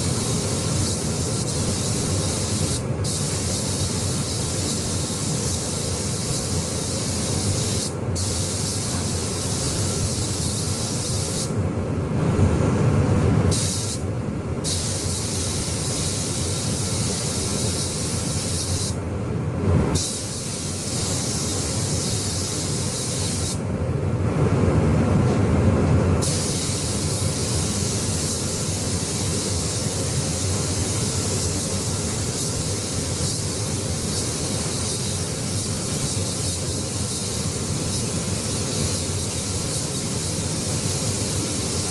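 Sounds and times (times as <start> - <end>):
paint spray gun hissing: 0.0 - 11.6, 13.5 - 14.0, 14.6 - 19.0, 20.0 - 23.6, 26.2 - 41.9.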